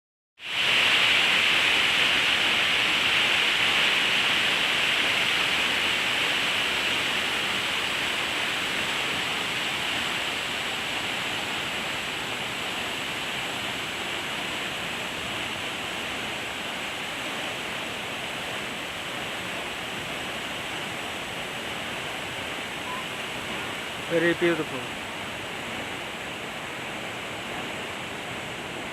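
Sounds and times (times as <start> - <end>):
waterfall rushing: 0.4 - 28.9.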